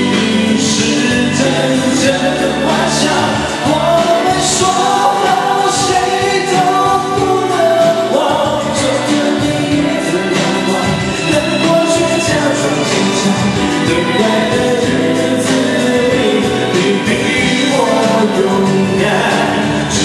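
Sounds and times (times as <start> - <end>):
karaoke backing track: 0.0 - 20.0
man singing into microphone: 0.0 - 20.0.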